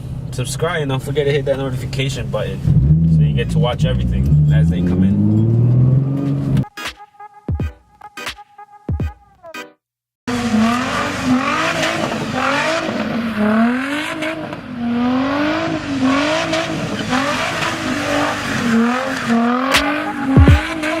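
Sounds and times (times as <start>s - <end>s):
car engine revving: 0.0s - 6.7s, 10.3s - 21.0s.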